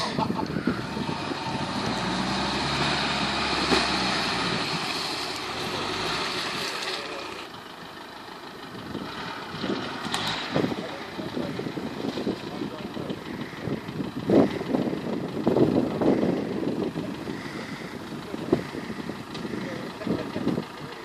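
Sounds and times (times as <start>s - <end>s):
off-road vehicle engine working hard: 0.0s - 21.0s.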